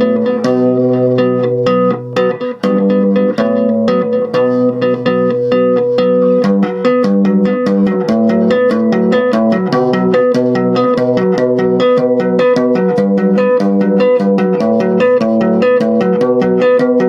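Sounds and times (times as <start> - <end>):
electric bass tapping: 0.0 - 17.0.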